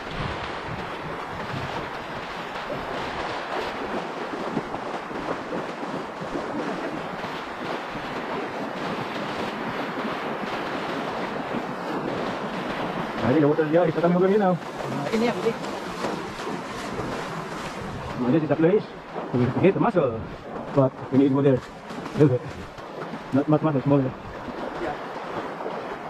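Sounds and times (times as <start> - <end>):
surf breaking: 0.0 - 26.0
wind buffeting microphone: 0.0 - 26.0.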